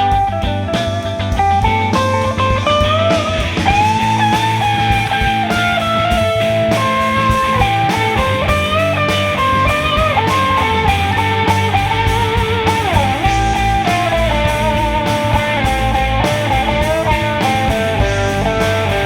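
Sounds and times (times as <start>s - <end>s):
bass guitar: 0.0s - 19.0s
drums: 0.0s - 19.0s
electric guitar solo: 0.0s - 19.0s.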